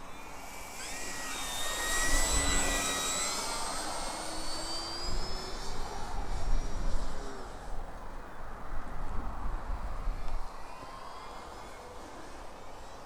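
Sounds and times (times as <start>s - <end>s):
model plane electric motor whine: 0.0s - 13.0s.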